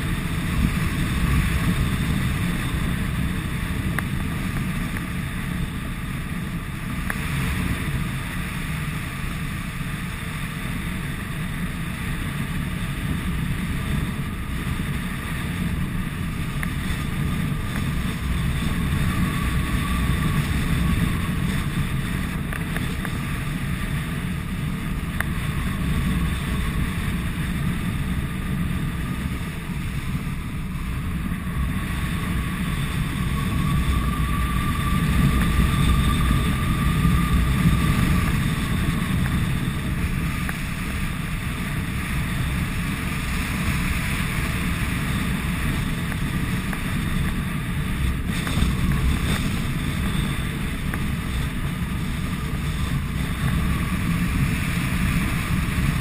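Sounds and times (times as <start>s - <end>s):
rush of airflow: 0.0s - 56.0s.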